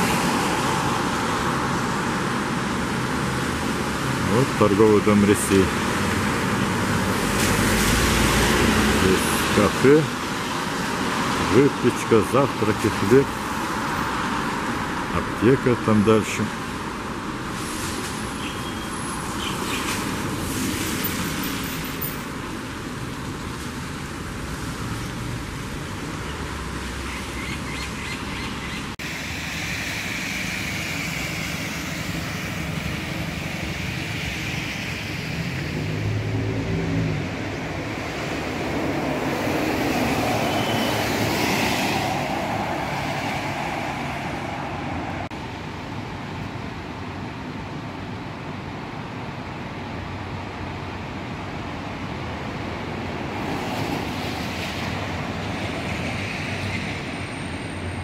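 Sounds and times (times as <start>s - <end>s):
car engine noise: 0.0s - 58.0s
cars passing on wet road: 0.0s - 58.0s.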